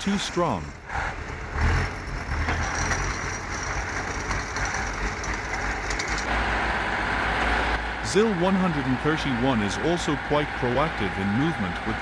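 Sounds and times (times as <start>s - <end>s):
tractor and truck engines running: 0.0s - 12.0s.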